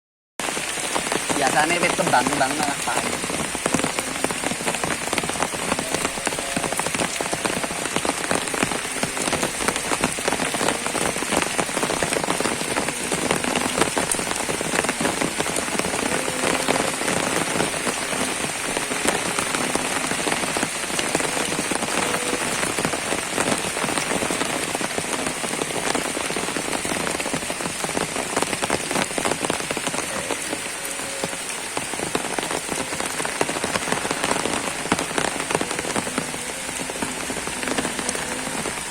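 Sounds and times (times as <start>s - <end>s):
steady rain falling: 0.4s - 38.9s.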